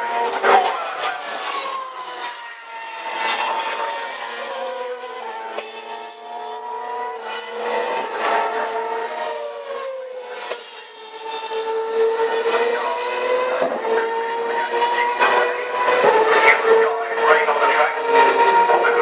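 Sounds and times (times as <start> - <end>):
racing car engines at high revs: 0.0 - 19.0.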